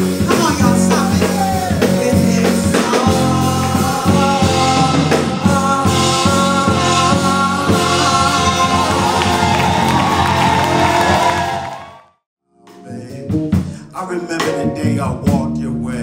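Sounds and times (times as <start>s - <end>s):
live band music: 0.0s - 12.0s, 12.6s - 16.0s.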